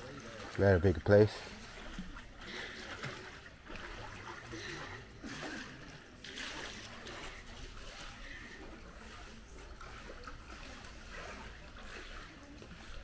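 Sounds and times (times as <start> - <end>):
running water splashing: 0.0 - 13.0.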